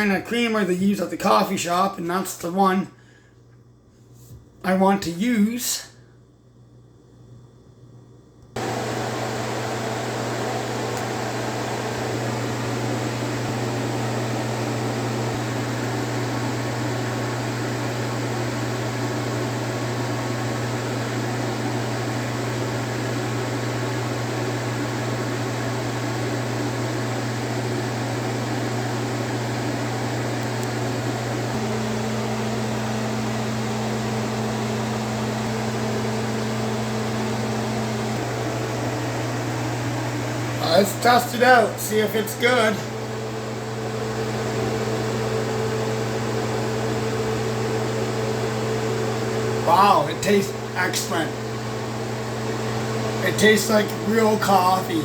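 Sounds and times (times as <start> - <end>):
appliance mains hum: 0.0 - 55.0
appliance whirring: 8.4 - 55.0.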